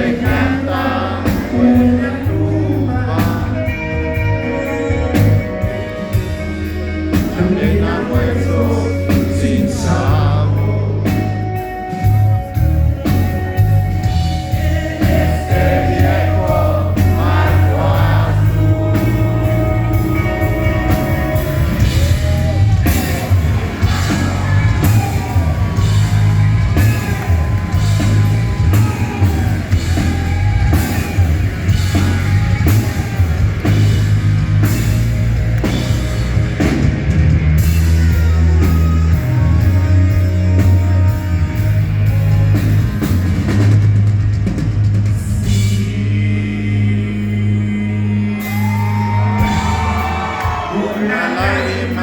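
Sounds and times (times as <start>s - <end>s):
lead guitar bending melody: 0.0s - 43.4s
drum kit: 0.0s - 47.3s, 48.4s - 52.0s
steady bass line: 0.0s - 52.0s.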